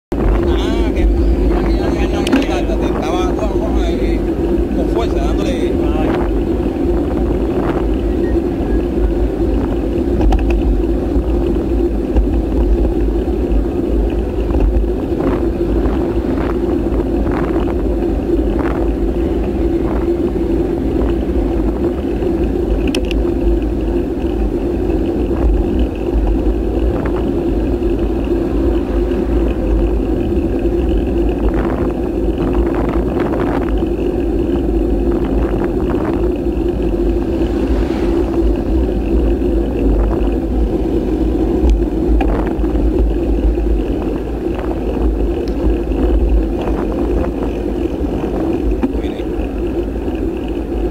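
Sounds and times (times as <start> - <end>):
constant drone: 0.0 - 50.9
wind rumble on microphone: 0.0 - 50.9.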